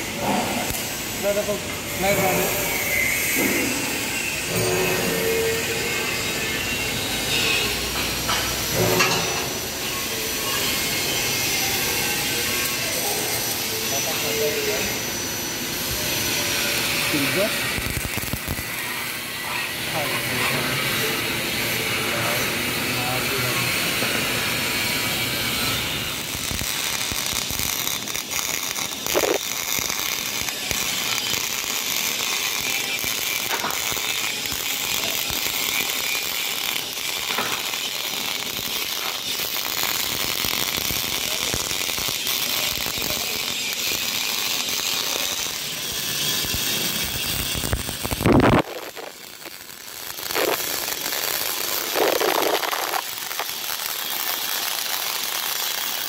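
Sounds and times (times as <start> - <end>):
welding arc crackling: 0.0 - 56.0.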